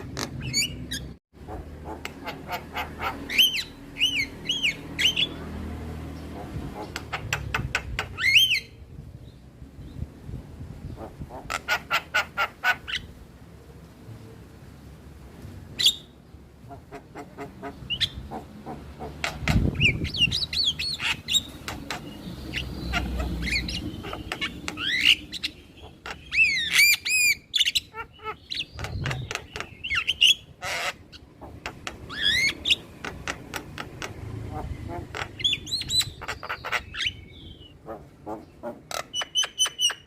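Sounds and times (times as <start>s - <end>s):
myna bird singing: 0.0s - 13.2s, 15.7s - 40.0s.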